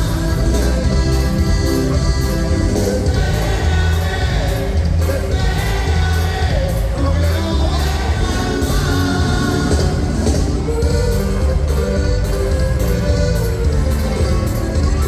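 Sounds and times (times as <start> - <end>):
song with singer and band: 0.0 - 15.0.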